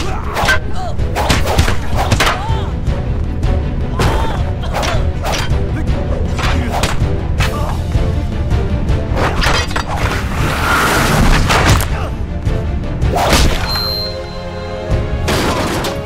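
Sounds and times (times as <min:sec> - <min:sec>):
dramatic music: 0:00.0 - 0:16.0.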